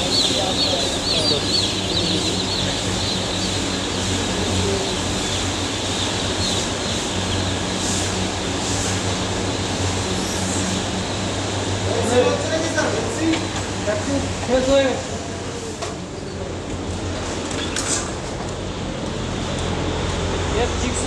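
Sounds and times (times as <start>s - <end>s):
drone of fans and motors: 0.0s - 21.0s.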